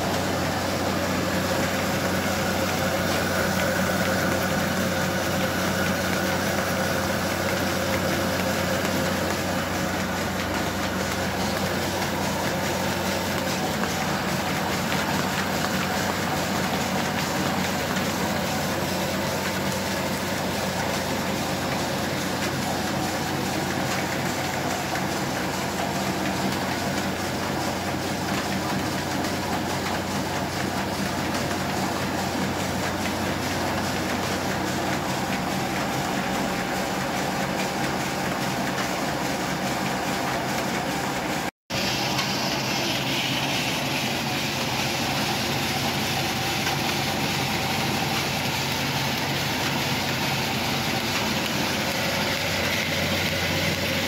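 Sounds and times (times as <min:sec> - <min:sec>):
belt-driven mill machinery humming: 0:00.0 - 0:54.0.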